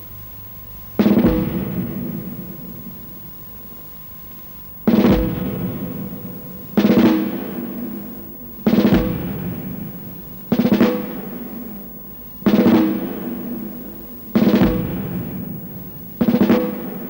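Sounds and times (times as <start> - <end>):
loud drum rolls: 1.0 - 3.7, 4.8 - 17.0.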